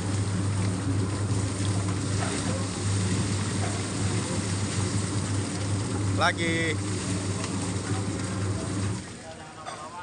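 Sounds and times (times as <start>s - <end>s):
plucking machine motor hum: 0.0s - 9.2s
spinning drum churning: 0.0s - 9.2s.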